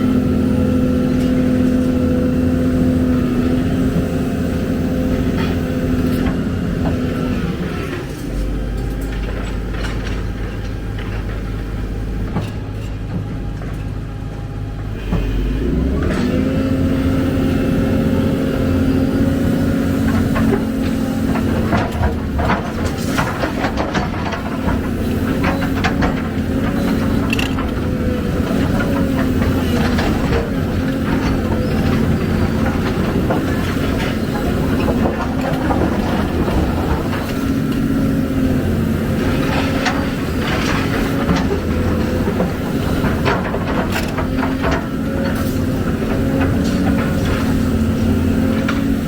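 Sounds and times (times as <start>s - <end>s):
excavator diesel engine revving: 0.0s - 49.0s.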